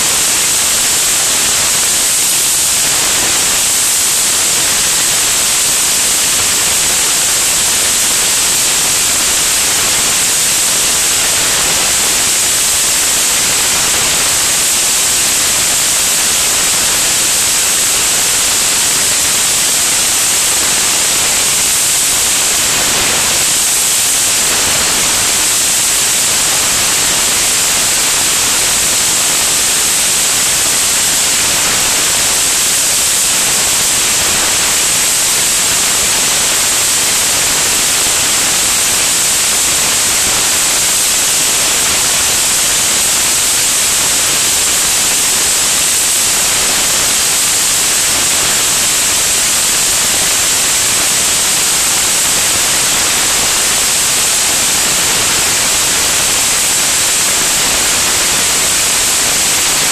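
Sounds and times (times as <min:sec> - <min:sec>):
airflow rushing hiss: 0:00.0 - 0:59.9.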